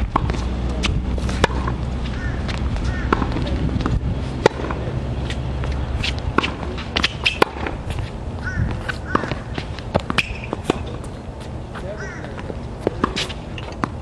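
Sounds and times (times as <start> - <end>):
footsteps: 0.0 - 14.0
racket hitting ball: 0.0 - 14.0
steady low rumble: 0.0 - 14.0.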